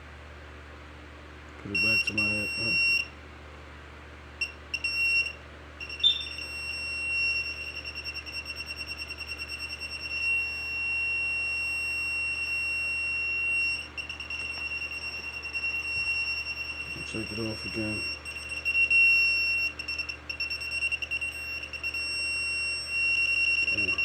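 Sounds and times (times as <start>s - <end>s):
detector alarm beeping: 1.7s - 3.1s, 4.4s - 24.0s.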